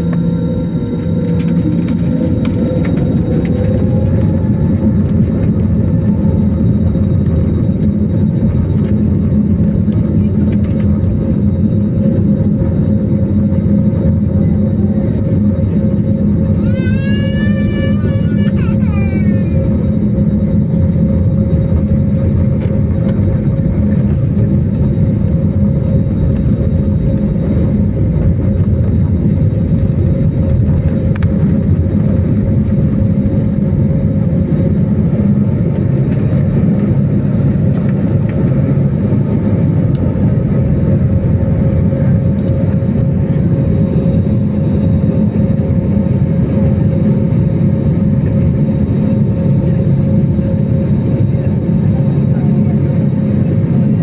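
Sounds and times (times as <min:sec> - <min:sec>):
airliner cabin engine drone: 0:00.0 - 0:54.0
constant hum: 0:00.0 - 0:54.0.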